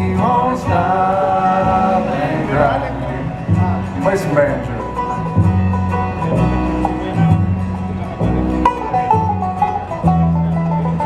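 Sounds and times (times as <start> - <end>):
plucked banjo notes: 0.0 - 11.0
plucked strings holding low notes: 0.0 - 11.0.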